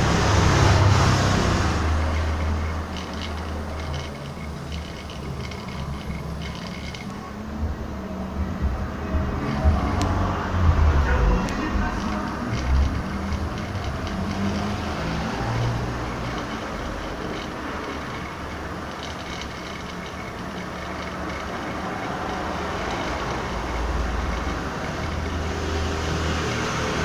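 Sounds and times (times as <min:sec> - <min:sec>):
electric fan air rush: 0:00.0 - 0:27.0
low motor hum: 0:00.0 - 0:27.0.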